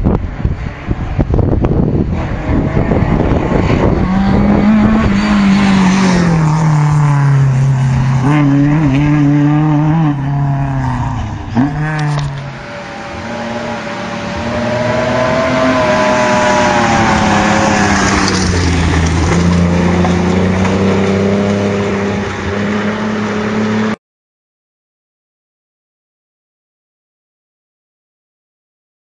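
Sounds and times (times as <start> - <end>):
rally car passing at speed: 0.3 - 24.0.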